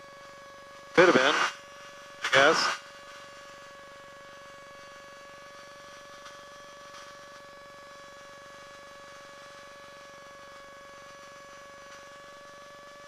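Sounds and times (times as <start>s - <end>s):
faint electrical whine: 0.0s - 13.0s.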